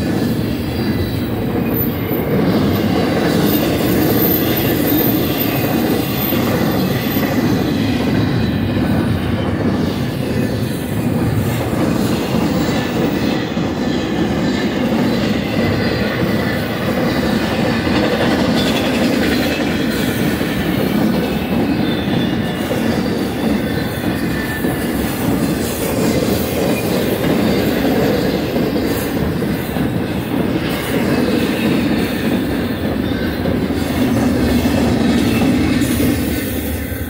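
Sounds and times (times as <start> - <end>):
high wheel squeal: 0.0 - 11.4, 12.0 - 37.0
train wheels rumbling on rail: 0.0 - 37.0.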